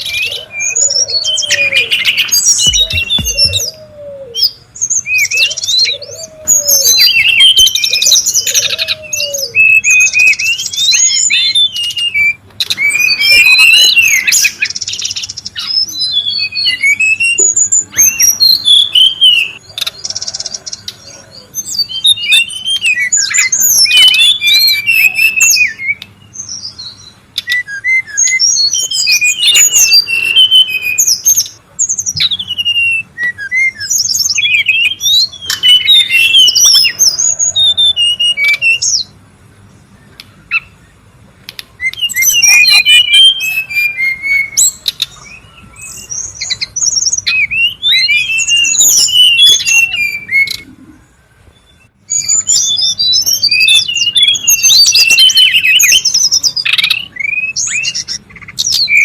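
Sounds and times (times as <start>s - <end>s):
bird whistled warbling: 0.0s - 39.1s, 41.8s - 50.9s, 51.6s - 59.0s.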